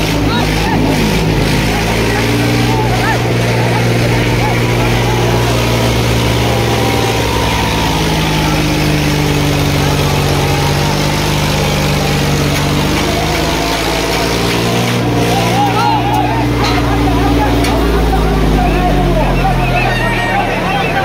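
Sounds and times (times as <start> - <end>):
diesel tractor engines under load: 0.0 - 21.0.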